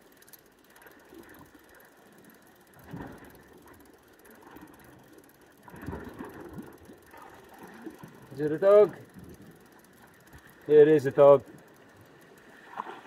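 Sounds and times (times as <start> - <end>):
fishing reel winding: 0.0 - 13.0.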